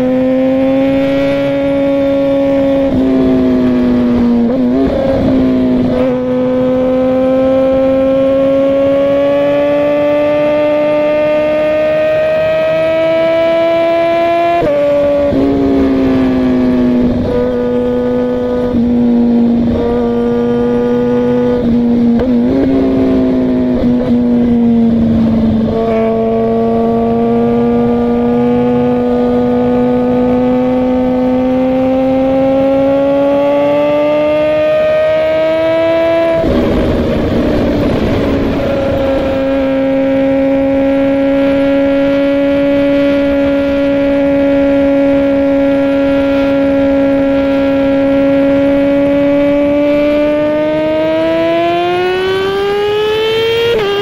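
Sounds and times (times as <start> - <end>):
motorcycle engine running: 0.0 - 12.5, 14.3 - 54.0.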